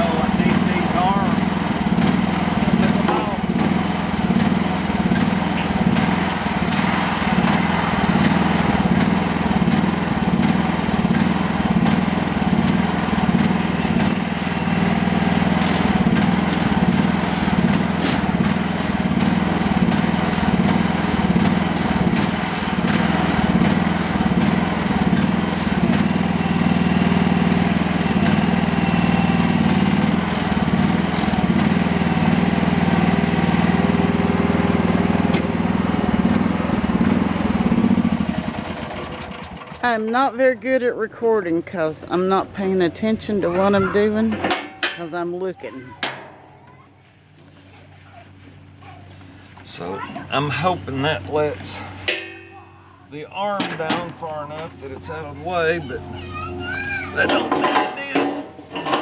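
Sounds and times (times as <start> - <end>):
excavator diesel engine running: 0.0 - 45.9, 47.2 - 52.2, 52.9 - 59.0.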